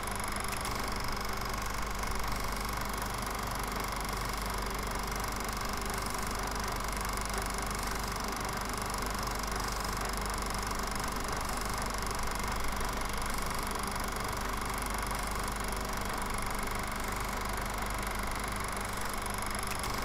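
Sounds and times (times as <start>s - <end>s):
film projector running: 0.0s - 20.0s.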